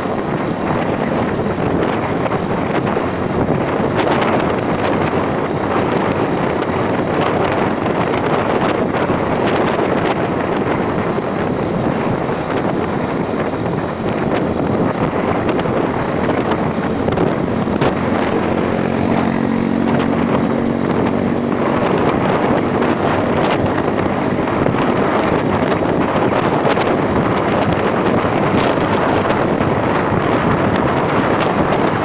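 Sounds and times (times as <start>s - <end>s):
vehicle engine running: 0.0s - 32.0s
wind noise on microphone: 0.0s - 32.0s.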